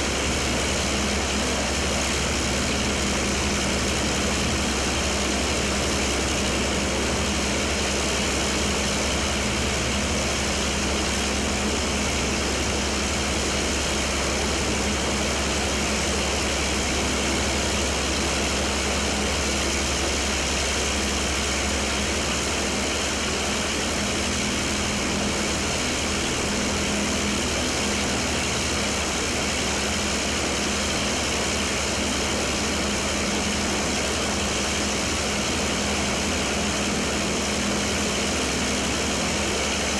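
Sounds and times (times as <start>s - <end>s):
piston aircraft engine idling: 0.0s - 39.9s.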